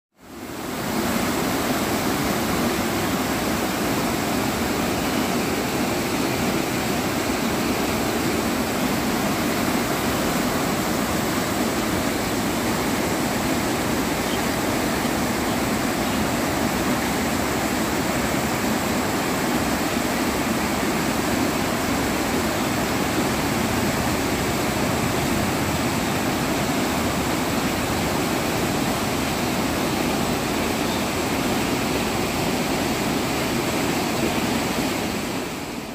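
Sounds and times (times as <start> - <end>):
river rushing over rocks: 0.2 - 35.9.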